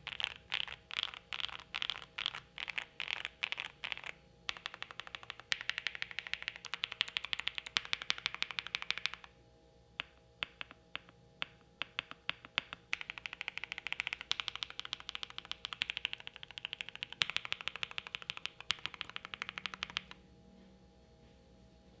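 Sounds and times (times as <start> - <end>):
fast typing on mechanical keyboard: 0.0 - 9.3, 11.8 - 20.2.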